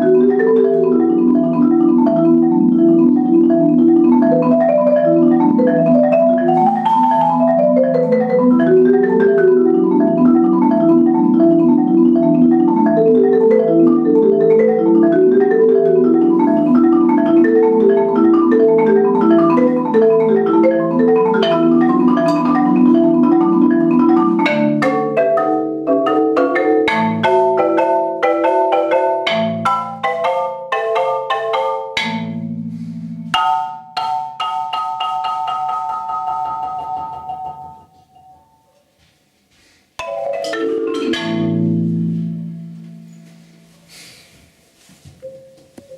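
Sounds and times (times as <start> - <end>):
solo marimba: 0.0 - 45.9.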